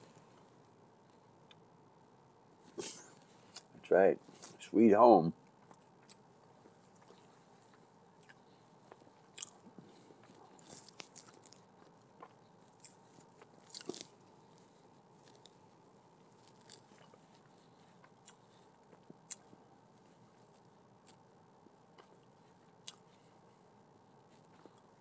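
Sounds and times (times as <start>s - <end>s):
person chewing biscuit: 2.6s - 4.6s, 5.5s - 25.0s.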